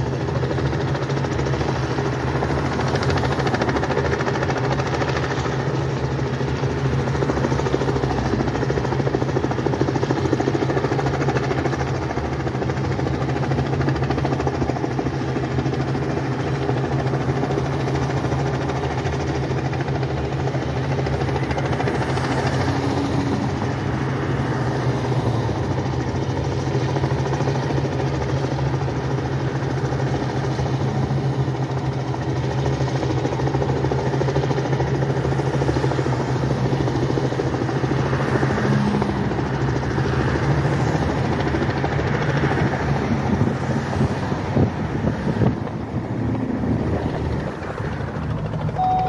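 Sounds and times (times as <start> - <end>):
helicopter flying overhead: 0.0 - 49.0.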